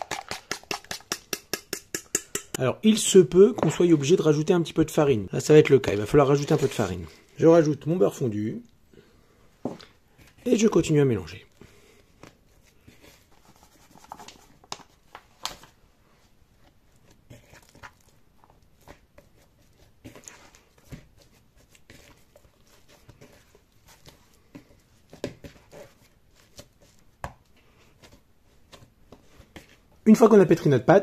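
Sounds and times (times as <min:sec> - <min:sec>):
hands kneading sticky dough: 0:00.0 - 0:08.9, 0:09.8 - 0:31.0.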